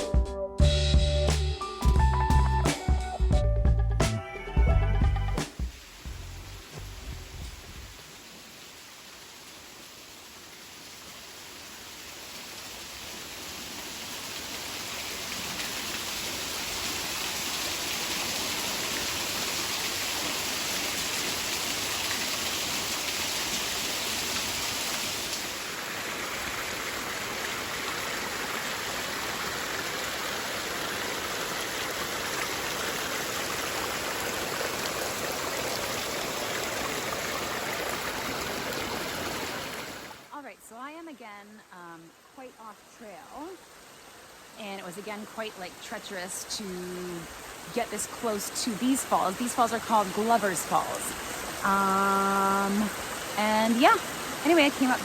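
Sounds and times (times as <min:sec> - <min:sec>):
water splashing over waterfall: 0:05.4 - 0:41.1, 0:42.5 - 0:55.0.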